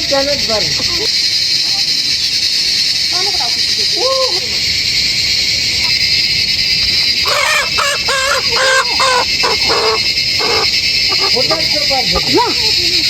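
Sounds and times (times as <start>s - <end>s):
bird calling: 0.0s - 13.0s
high-pitched insect drone: 0.0s - 13.0s.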